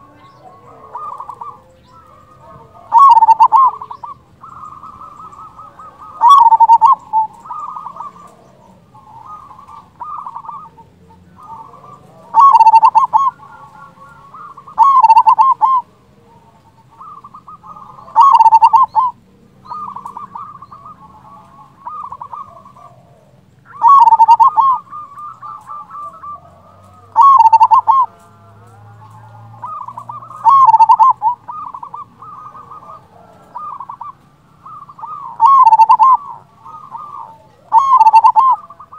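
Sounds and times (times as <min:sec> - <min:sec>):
dove cooing: 0:00.0 - 0:38.9
soft trilling coos: 0:00.0 - 0:38.9.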